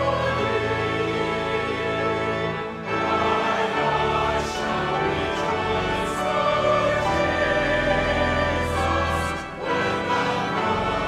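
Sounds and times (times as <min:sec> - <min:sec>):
church choir holding a chord: 0:00.0 - 0:11.0.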